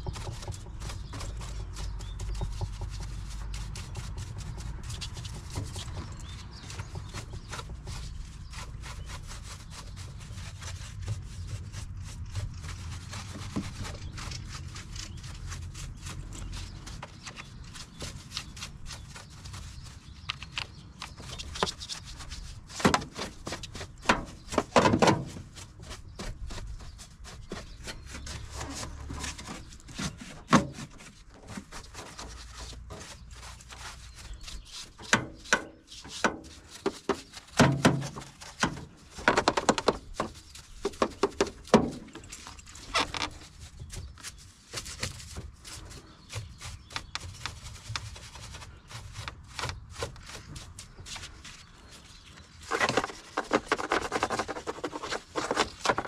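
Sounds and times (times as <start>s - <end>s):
objects knocking and rubbing: 0.0s - 56.0s.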